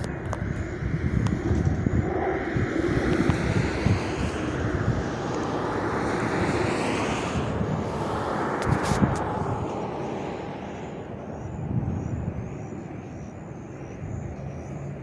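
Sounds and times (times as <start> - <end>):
propeller plane engine: 0.0 - 15.0
wind buffeting microphone: 0.0 - 15.0.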